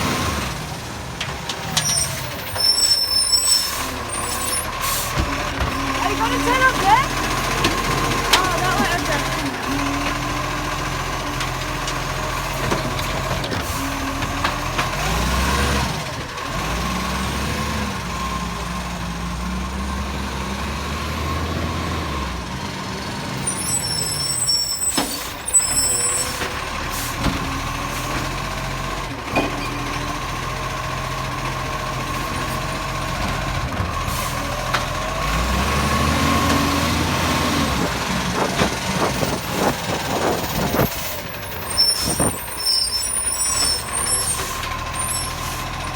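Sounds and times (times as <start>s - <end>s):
garbage truck engine revving: 0.0s - 45.9s.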